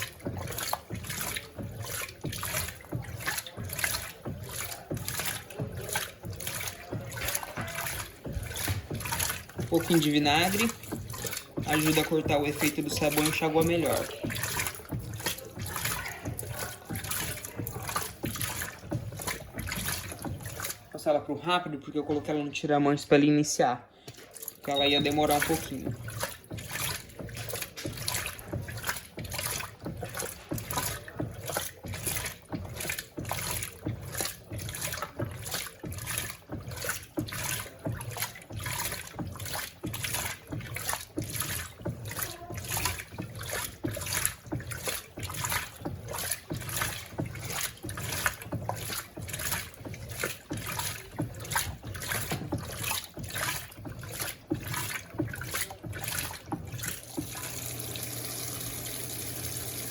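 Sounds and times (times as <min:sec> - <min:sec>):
low motor hum: 0:00.0 - 0:21.0, 0:24.8 - 0:59.9
water sloshing in washing machine: 0:00.0 - 0:59.9.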